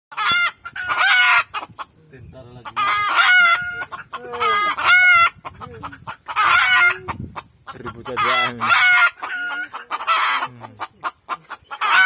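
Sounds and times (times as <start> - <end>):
roosters crowing: 0.1 - 1.7, 2.6 - 12.0
chickens clucking: 0.1 - 12.0.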